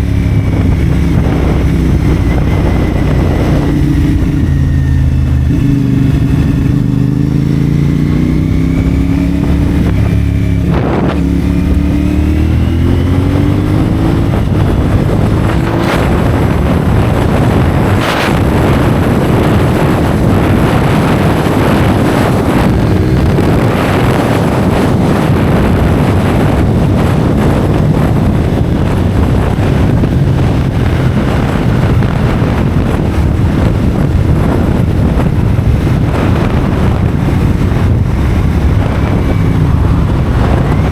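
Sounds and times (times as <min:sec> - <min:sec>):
motorcycle engine revving: 0:00.0 - 0:40.9
wind rushing over camera: 0:00.0 - 0:40.9.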